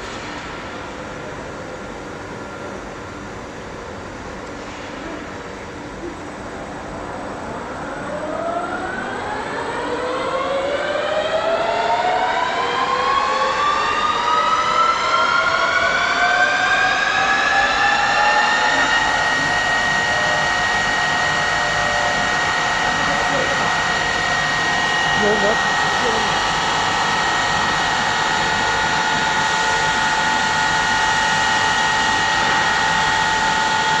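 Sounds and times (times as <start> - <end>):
lathe spindle whine rising: 6.8 - 34.0.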